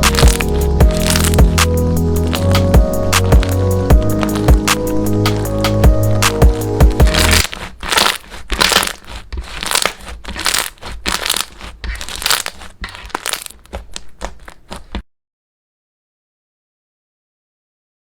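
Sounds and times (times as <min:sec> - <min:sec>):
slime squishing by hand: 0:00.0 - 0:15.0.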